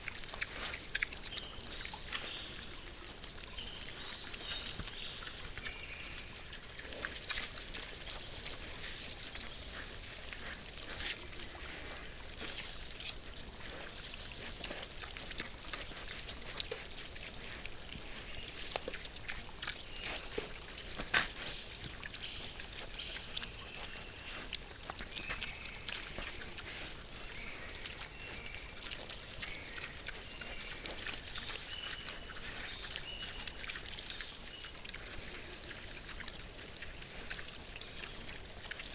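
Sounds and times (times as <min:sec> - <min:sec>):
boars feeding crunching: 0:00.0 - 0:38.9.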